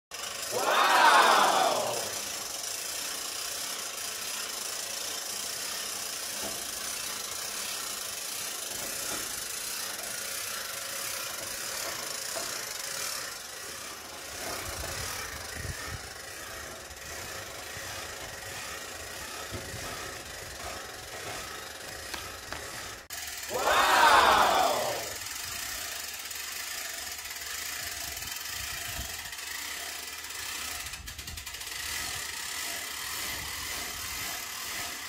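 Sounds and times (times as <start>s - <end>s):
hand-cranked winch gears rattling: 0.1s - 35.0s.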